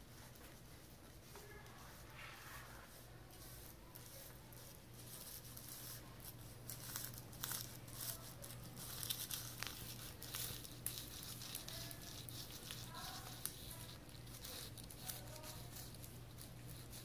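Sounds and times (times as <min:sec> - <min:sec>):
knife sawing through sponge cake: 0:02.7 - 0:17.0.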